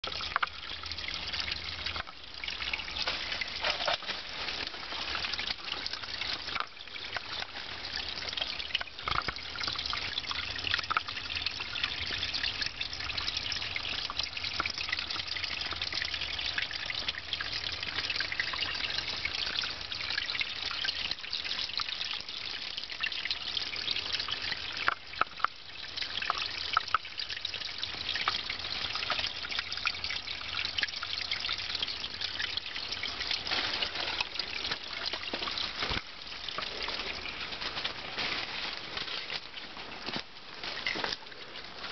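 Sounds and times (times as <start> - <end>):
water trickling over rock: 0.0 - 41.9.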